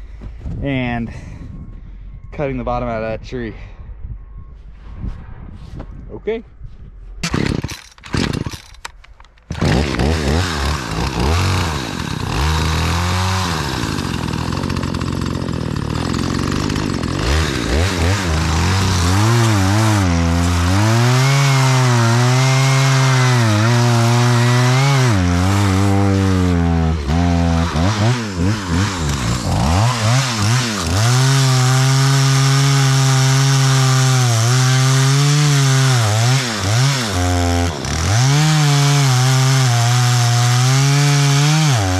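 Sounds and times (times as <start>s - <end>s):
chainsaw cutting wood: 7.2s - 41.9s.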